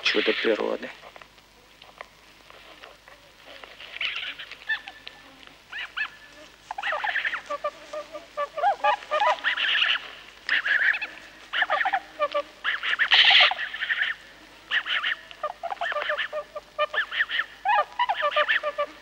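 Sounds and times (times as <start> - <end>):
swans honking: 2.4 - 19.0.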